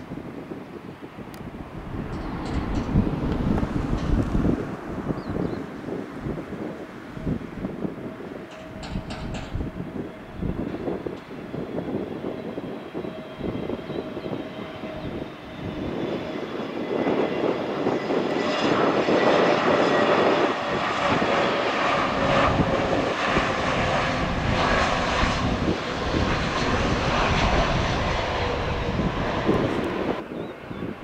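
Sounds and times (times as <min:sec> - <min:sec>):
jet engines roaring: 0:00.0 - 0:31.0
falling jet whine: 0:00.2 - 0:31.0.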